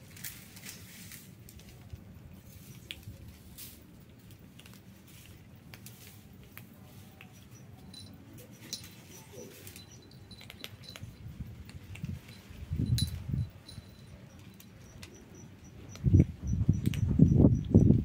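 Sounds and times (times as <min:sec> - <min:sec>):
kittens crunching dry kibble: 0:00.0 - 0:17.0.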